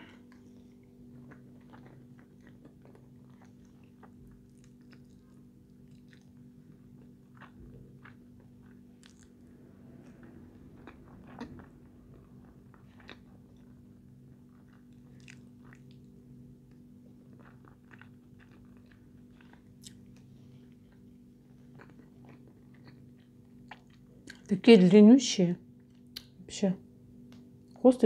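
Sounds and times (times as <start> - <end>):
faint hum: 0.0 - 28.0
close chewing: 0.1 - 24.5.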